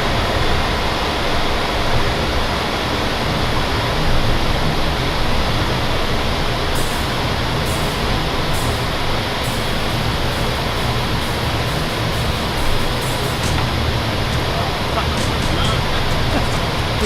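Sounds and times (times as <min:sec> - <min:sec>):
jet engine and air roar in cockpit: 0:00.0 - 0:17.0
low hum: 0:00.0 - 0:17.0.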